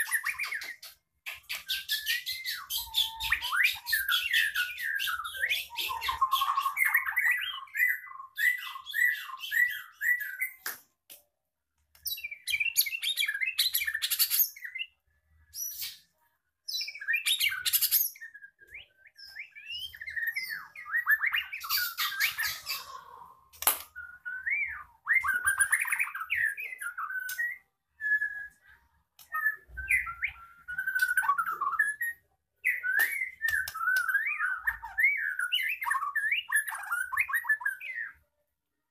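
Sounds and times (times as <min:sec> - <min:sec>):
songbird singing: 0:00.0 - 0:10.7, 0:11.9 - 0:38.3.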